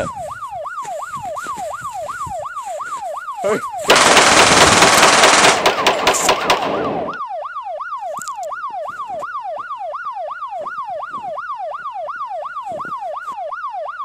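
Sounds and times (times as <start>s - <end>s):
siren yelping: 0.0s - 4.9s, 5.8s - 14.0s.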